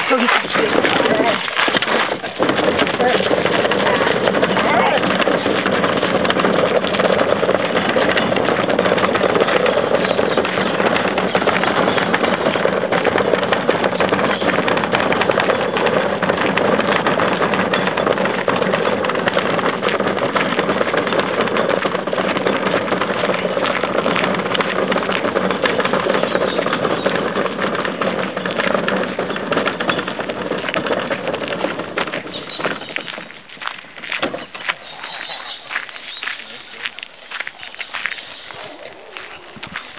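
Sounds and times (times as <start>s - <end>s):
bin wheels rumbling over gravel: 0.0s - 39.9s.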